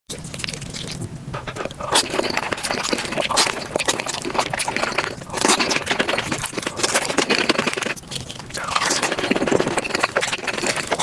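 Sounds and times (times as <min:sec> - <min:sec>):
chewing and crackling bites: 0:00.1 - 0:11.0.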